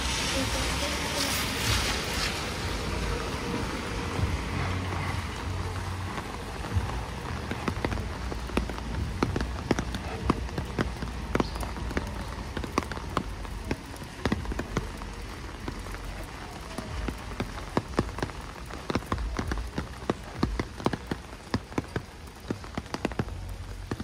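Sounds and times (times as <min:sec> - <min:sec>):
rain on wet street: 0:00.0 - 0:24.0
raindrop taps: 0:00.8 - 0:24.0.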